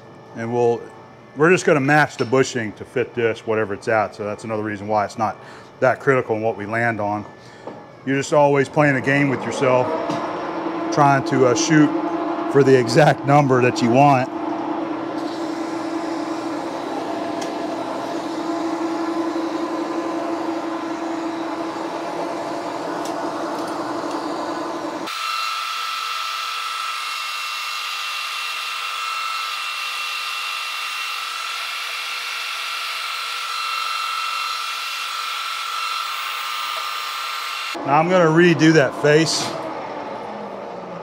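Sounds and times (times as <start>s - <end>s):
high machine whine: 0.0s - 41.0s
lathe cutting steel drone: 6.0s - 41.0s.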